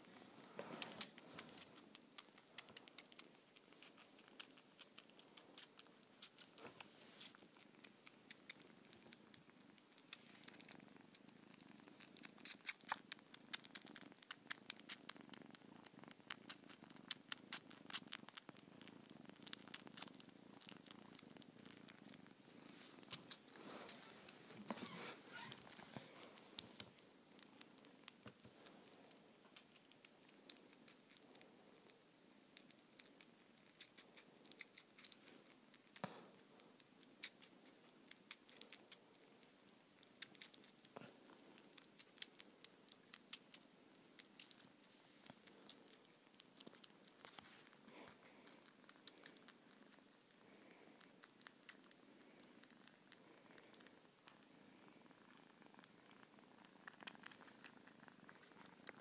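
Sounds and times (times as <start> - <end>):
kitten purring: 0.0 - 59.0.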